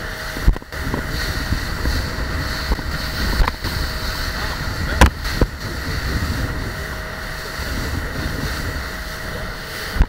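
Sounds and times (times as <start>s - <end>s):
water rushing along boat hull: 0.0s - 10.0s
wind buffeting microphone: 0.0s - 10.0s.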